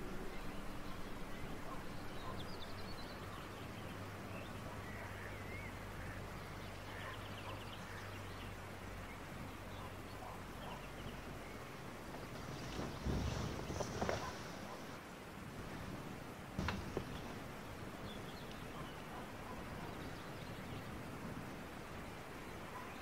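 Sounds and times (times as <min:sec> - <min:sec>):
faint bird chirps: 0:00.0 - 0:14.9, 0:16.6 - 0:23.0
low steady hum: 0:00.0 - 0:23.0.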